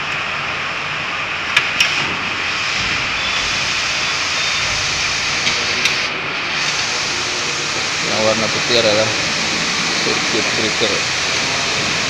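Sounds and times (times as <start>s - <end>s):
machinery roar: 0.0s - 12.0s.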